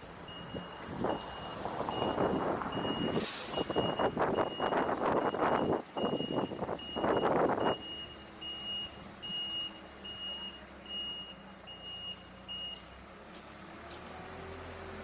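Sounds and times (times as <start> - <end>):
reversing alarm beeping: 0.3 - 13.0.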